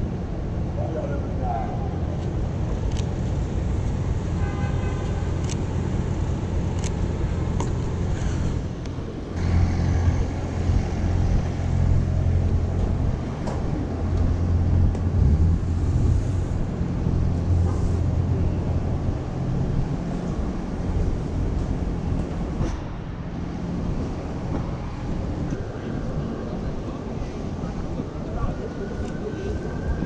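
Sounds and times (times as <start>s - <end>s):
low rumble of vehicles: 0.0s - 30.0s.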